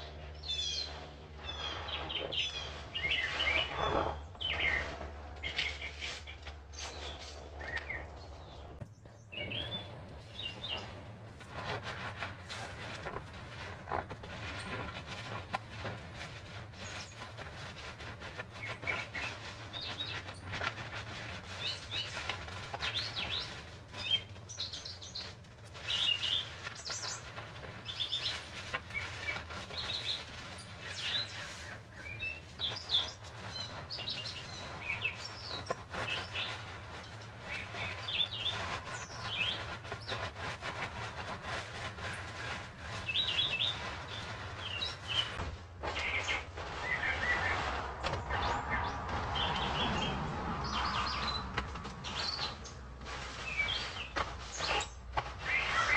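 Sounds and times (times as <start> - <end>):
songbirds chirping: 0.0 - 11.7, 16.6 - 55.9.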